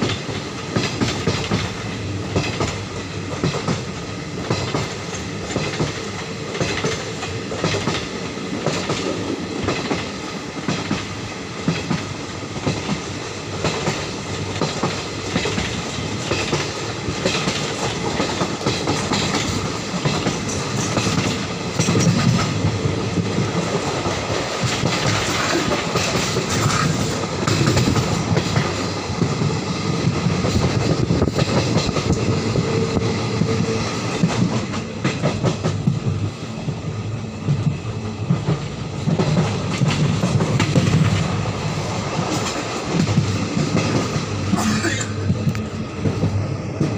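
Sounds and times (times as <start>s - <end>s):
train wheels clattering over rail joints: 0.0s - 36.1s, 37.4s - 46.9s
train rushing rumble: 0.0s - 46.9s.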